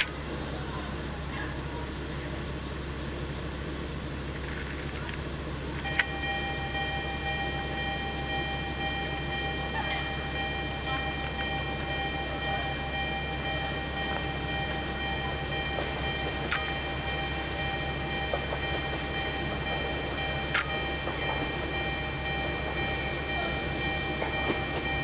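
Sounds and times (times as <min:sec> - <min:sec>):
diesel railcar idling: 0:00.0 - 0:25.0.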